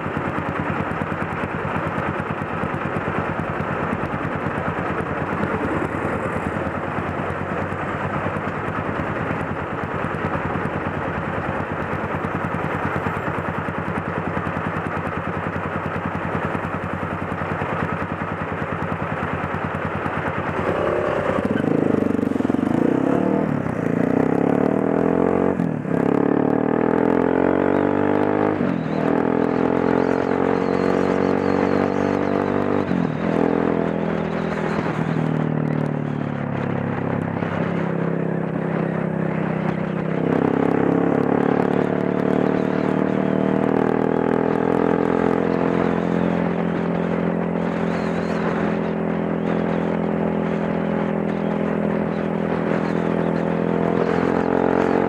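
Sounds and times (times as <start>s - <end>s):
motorcycle engine shifting gears: 0.0s - 55.0s.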